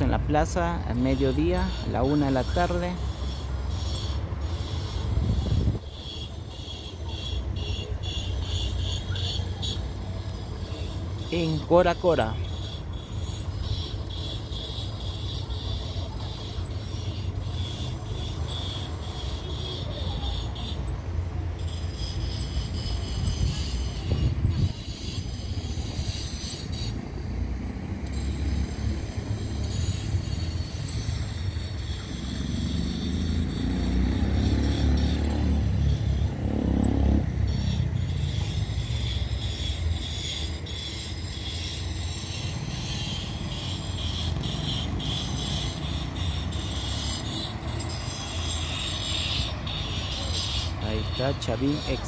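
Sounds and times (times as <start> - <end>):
traffic engine rumble: 0.0 - 52.0
vehicle passing: 0.0 - 52.0.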